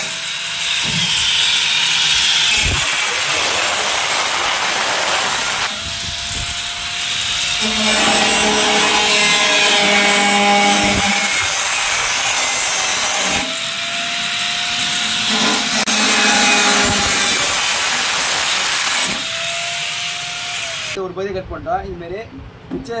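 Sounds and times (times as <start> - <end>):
angle grinder cutting metal: 0.0 - 21.0
grinder motor spinning free: 0.0 - 21.0.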